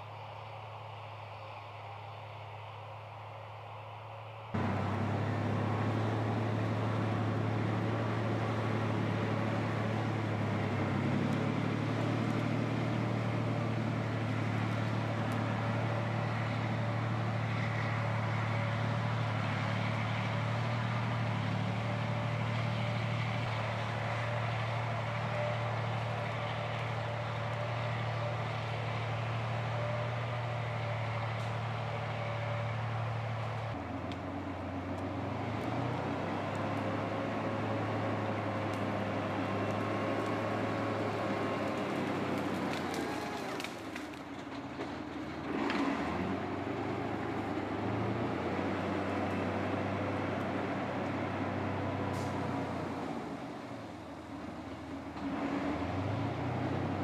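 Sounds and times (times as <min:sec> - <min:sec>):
large vehicle engine droning: 0:00.0 - 0:57.0.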